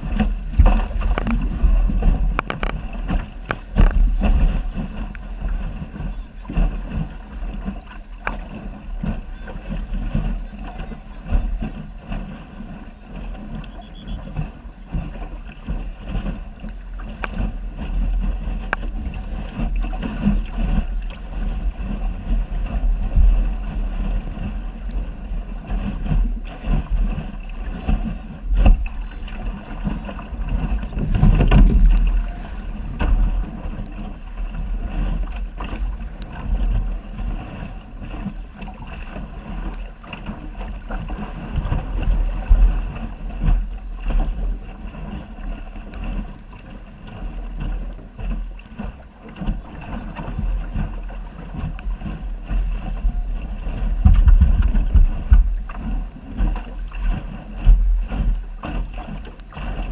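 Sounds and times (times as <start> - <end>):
boat knocks: 0.0 - 59.9
water splashing against hull: 0.0 - 59.9
wind buffeting microphone: 0.0 - 59.9.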